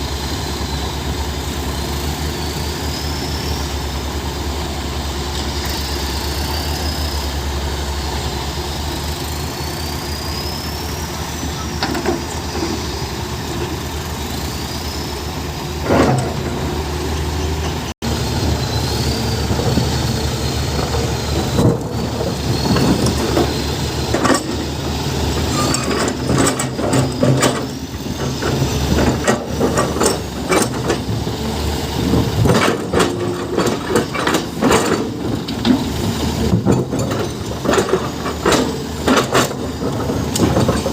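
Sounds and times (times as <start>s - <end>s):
heavy diesel excavator engine: 0.0s - 40.9s.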